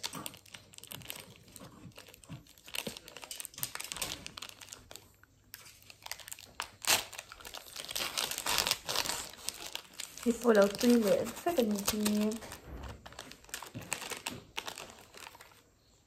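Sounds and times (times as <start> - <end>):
plastic wrapper crinkling: 0.0 - 15.9.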